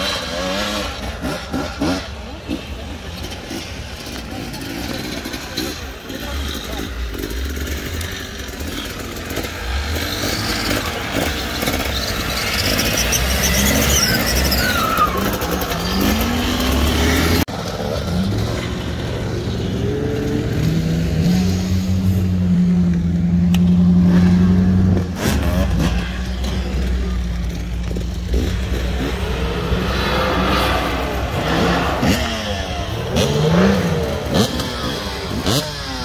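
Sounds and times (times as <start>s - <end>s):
off-road engines revving: 0.0s - 36.0s.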